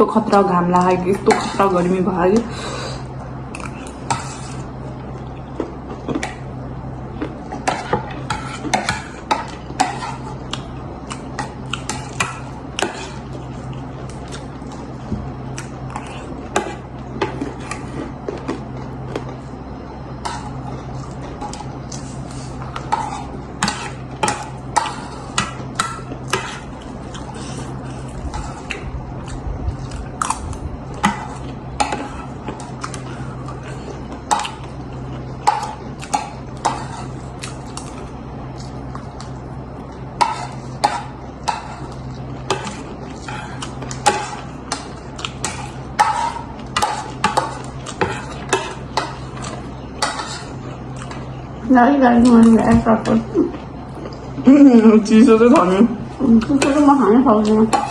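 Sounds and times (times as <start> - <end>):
low hum: 0.0 - 57.9.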